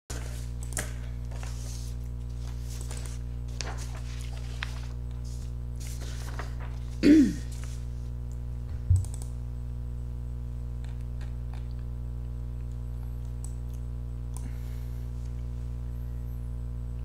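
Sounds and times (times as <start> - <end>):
steady electrical hum: 0.1 - 17.0.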